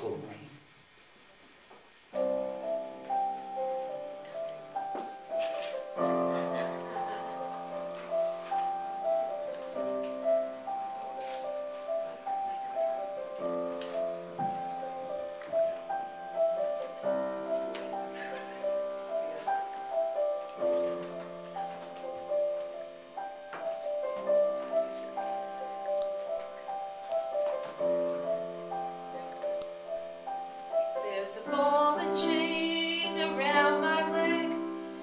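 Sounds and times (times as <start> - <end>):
slow solo piano: 2.1 - 35.0.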